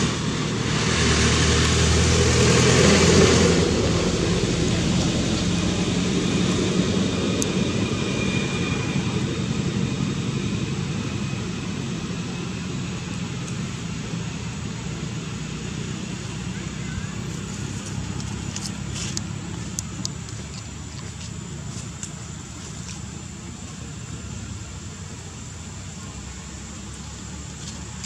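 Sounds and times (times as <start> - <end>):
passing vehicle engine drone: 0.0 - 28.0.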